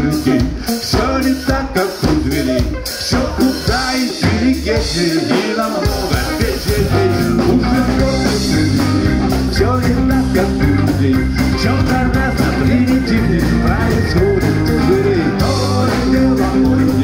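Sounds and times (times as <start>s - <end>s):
bass guitar: 0.0s - 17.0s
drum kit: 0.0s - 17.0s
person singing: 0.0s - 17.0s.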